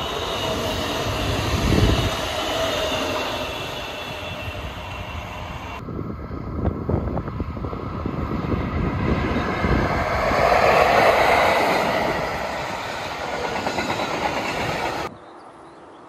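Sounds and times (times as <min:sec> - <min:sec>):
electric locomotive passing: 0:00.0 - 0:15.2.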